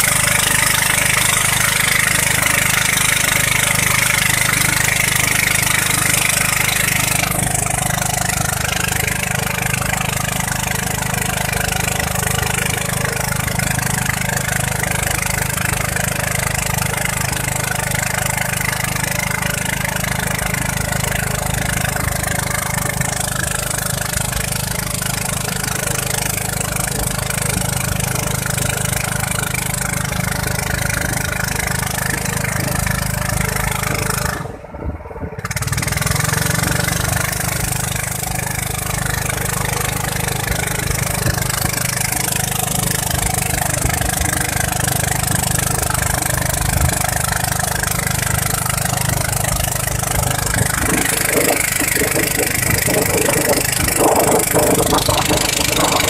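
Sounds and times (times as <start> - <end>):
motorboat engine running: 0.0 - 56.0
water rushing along hull: 0.0 - 56.0.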